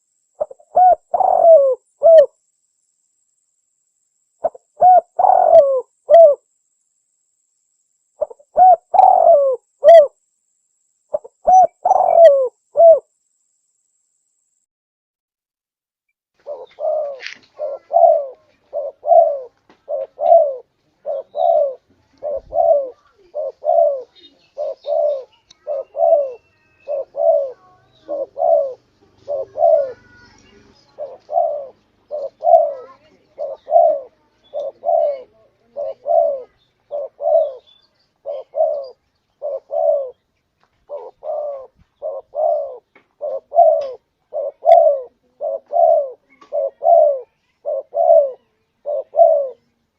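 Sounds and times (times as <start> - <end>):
dove cooing: 0.0 - 2.4, 4.4 - 6.4, 8.2 - 10.2, 11.1 - 13.1, 16.4 - 49.8.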